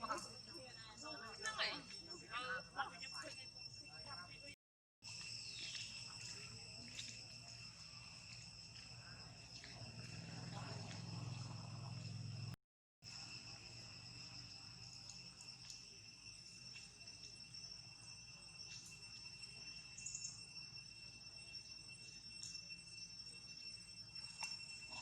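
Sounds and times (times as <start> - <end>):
high-pitched cricket trill: 0.0 - 25.0.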